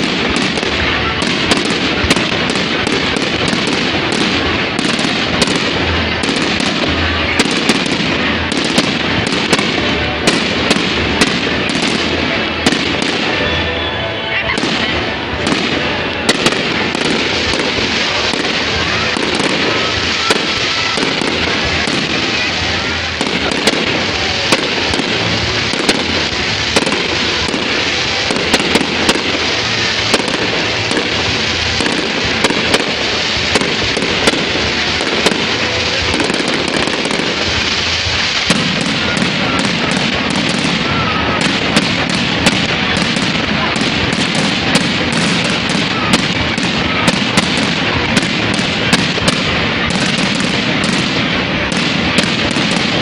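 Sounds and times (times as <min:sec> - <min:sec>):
fireworks rushing noise: 0:00.0 - 0:53.0
fireworks sharp bangs: 0:00.0 - 0:53.0.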